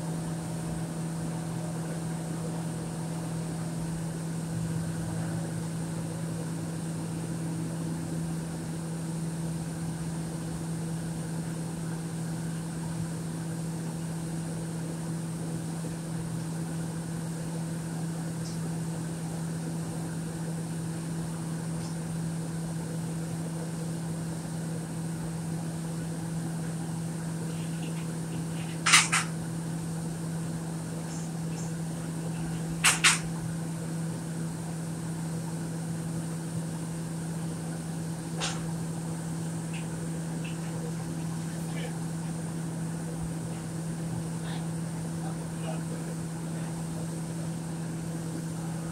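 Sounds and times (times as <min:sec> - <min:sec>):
low machinery hum: 0:00.0 - 0:48.9.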